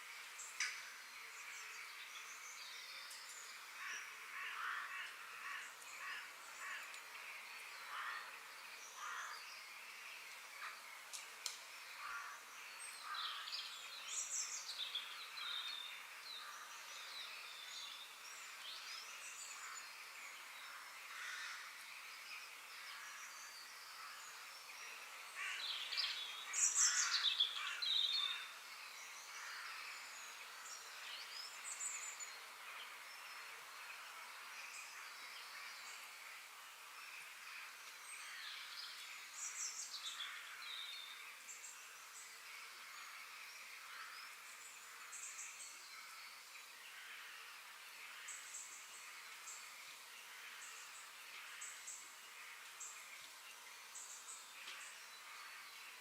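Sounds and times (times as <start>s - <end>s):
faint steady hiss: 0.0s - 56.0s
birds calling and chirping: 0.2s - 56.0s.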